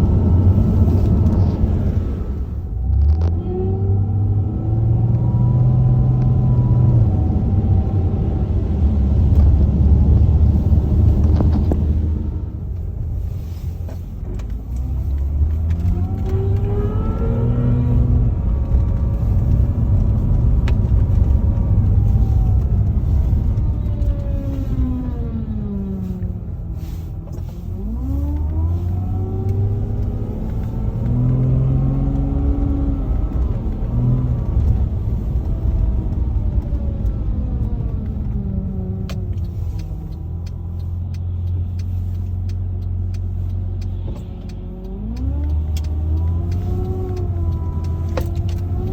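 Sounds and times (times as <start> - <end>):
car driving: 0.0 - 48.9.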